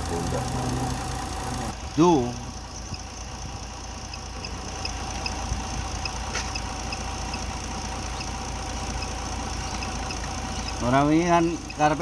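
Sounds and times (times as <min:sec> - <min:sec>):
car engine idling: 0:00.0 - 0:12.0
faint light engine ticking: 0:00.0 - 0:12.0.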